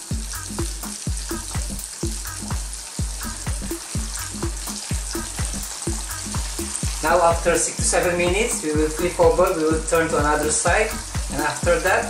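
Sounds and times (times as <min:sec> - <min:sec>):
background music with drum beat: 0:00.0 - 0:12.0
oil sizzling in a pan: 0:00.0 - 0:12.0.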